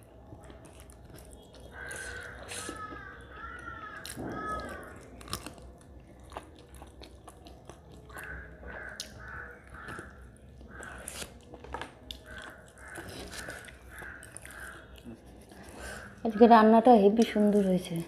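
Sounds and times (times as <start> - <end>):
woman chewing food: 0.0 - 16.5.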